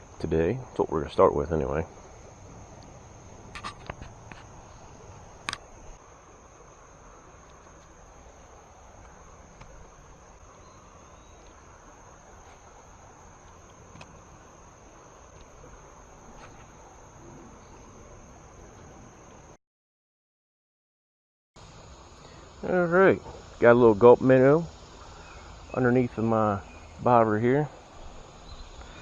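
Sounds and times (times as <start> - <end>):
insect chorus: 0.0 - 19.6, 21.6 - 29.0
soft outdoor hiss: 0.0 - 19.6, 21.6 - 29.0.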